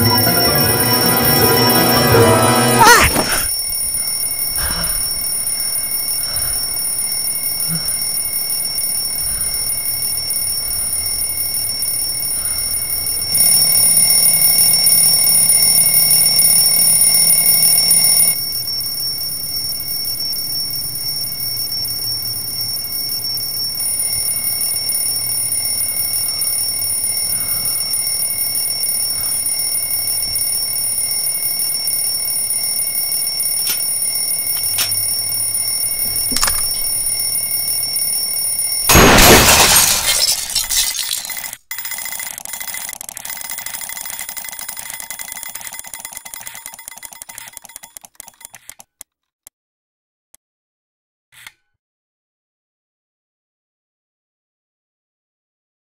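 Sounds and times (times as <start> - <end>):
alarm clock ringing: 0.0 - 39.4, 40.9 - 48.5.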